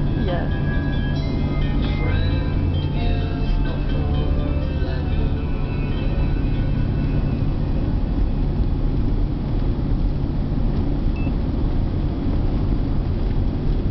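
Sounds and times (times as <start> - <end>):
car cabin road rumble: 0.0 - 13.9.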